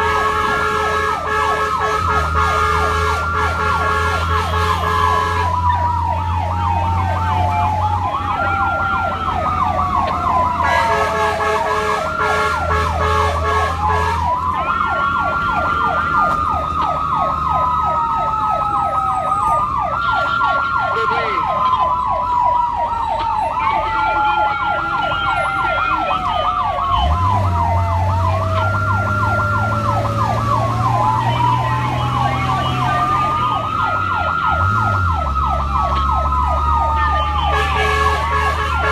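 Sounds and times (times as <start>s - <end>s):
siren wailing: 0.0s - 38.9s
siren yelping: 0.0s - 38.9s
vehicle engine hum: 0.0s - 38.9s.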